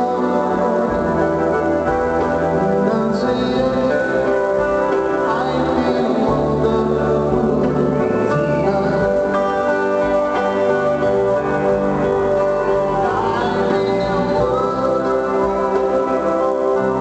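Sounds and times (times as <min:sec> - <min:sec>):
electric guitar with bending notes: 0:00.0 - 0:17.0
live band playing rock ballad: 0:00.0 - 0:17.0.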